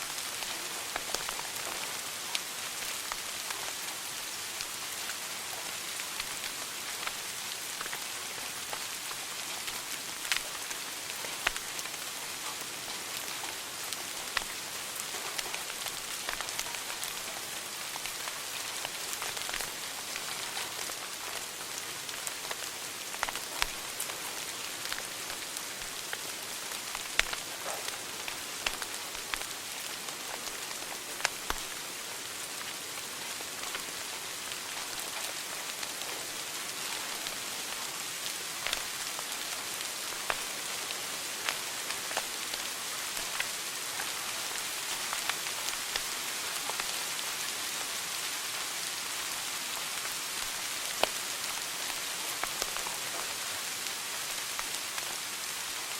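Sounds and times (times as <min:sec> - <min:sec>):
fire crackles and pops: 0:00.1 - 0:12.0, 0:12.6 - 0:47.8, 0:49.2 - 0:55.9.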